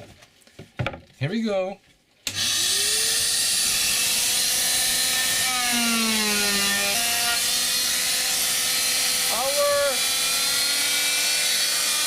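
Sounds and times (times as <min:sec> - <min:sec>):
power saw cutting wood: 0:02.3 - 0:12.0.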